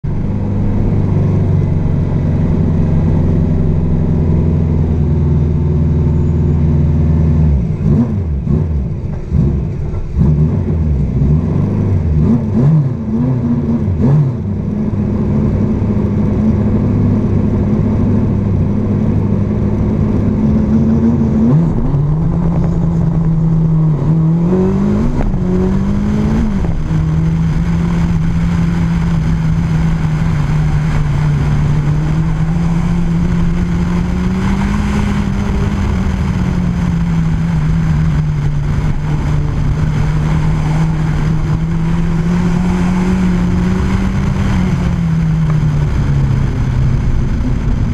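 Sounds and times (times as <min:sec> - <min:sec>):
engine throttle blips: 0:00.0 - 0:47.9.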